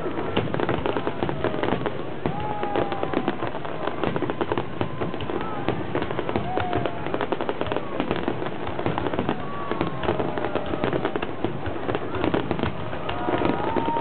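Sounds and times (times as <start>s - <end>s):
fireworks crackling: 0.0s - 14.0s.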